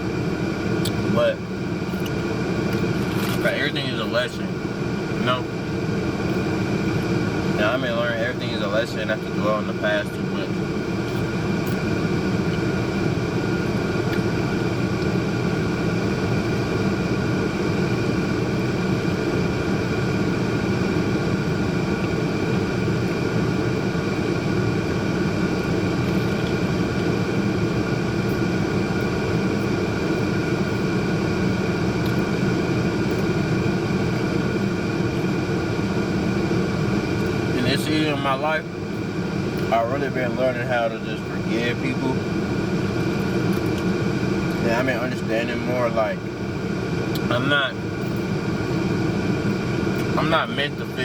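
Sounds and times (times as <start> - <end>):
mechanical hum: 0.0 - 51.0.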